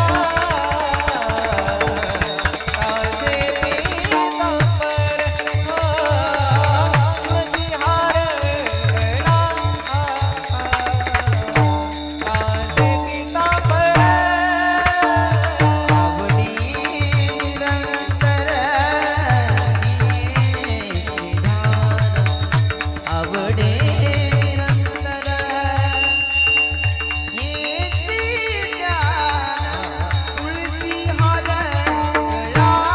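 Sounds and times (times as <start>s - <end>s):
person singing devotional melody: 0.0s - 32.9s.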